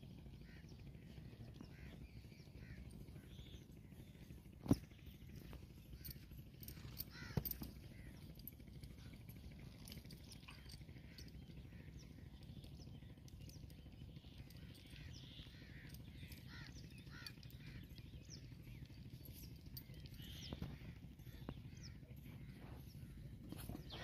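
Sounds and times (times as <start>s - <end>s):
low steady rumble: 0.0s - 24.0s
bird calls: 0.1s - 24.0s.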